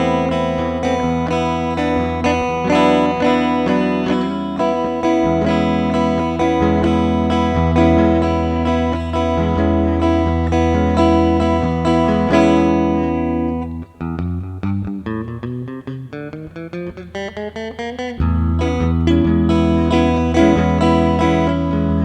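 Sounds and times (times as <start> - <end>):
guitar chords ringing: 0.0 - 22.0
picked guitar notes: 0.0 - 22.0.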